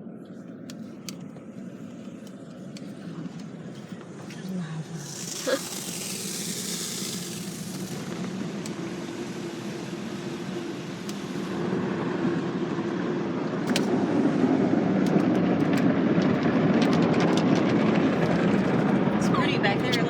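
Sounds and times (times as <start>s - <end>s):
car wash rumbling rush: 0.8s - 20.0s.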